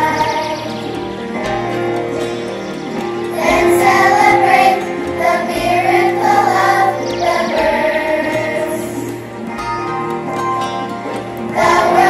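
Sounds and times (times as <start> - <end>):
children's choir singing: 0.0 - 10.3, 11.0 - 12.0
musical accompaniment: 0.0 - 12.0.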